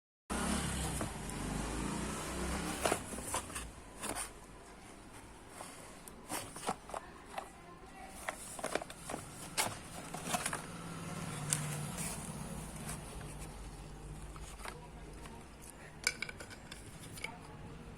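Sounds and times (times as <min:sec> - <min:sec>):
packaging clicks and scrapes: 0:02.5 - 0:17.5.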